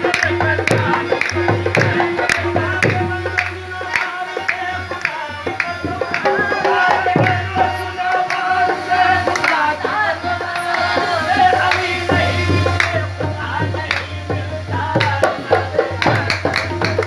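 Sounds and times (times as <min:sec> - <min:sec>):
dholak bass drum strokes: 0:00.0 - 0:03.8, 0:05.7 - 0:17.0
harmonium notes: 0:00.0 - 0:17.0
tabla drumming: 0:00.0 - 0:17.0.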